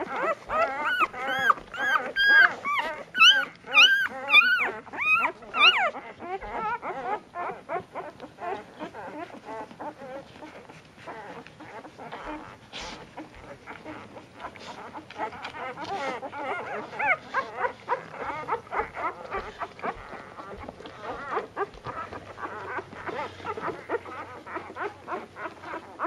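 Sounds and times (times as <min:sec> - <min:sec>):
puppies squeaking and whimpering: 0:00.0 - 0:26.0.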